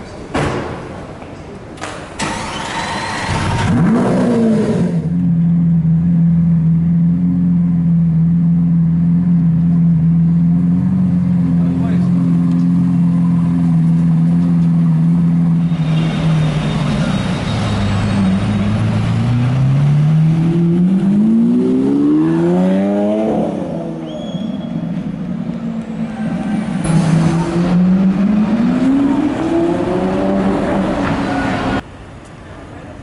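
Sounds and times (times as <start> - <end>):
car engine idling and revving: 2.2 - 31.8.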